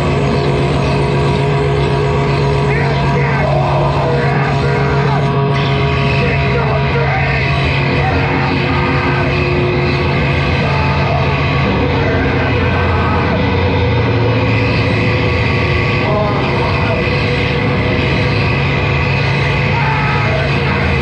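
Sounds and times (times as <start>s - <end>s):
noise rock band playing: 0.0s - 21.0s.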